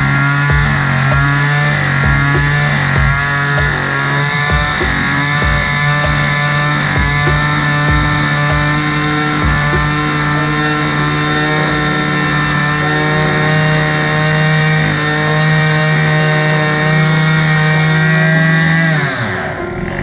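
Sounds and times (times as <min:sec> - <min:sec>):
string trimmer engine running: 0:00.0 - 0:20.0.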